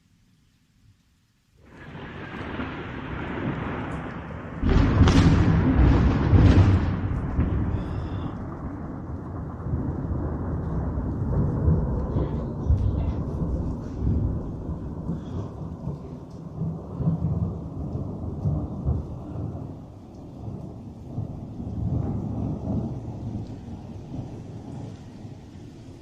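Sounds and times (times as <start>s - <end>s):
thunder rumbling: 1.6s - 26.0s.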